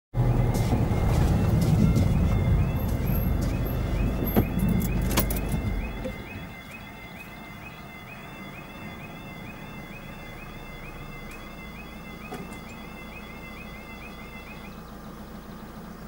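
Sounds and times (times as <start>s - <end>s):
car running: 0.1s - 16.0s
level crossing alarm yelping: 0.3s - 15.1s.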